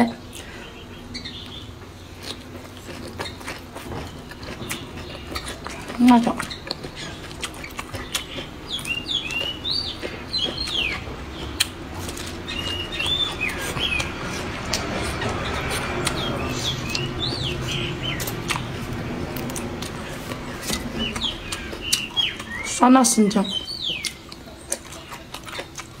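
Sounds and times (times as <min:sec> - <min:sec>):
small birds chirping: 0:00.0 - 0:26.0
person chewing and crunching food: 0:00.3 - 0:22.9, 0:23.5 - 0:26.0.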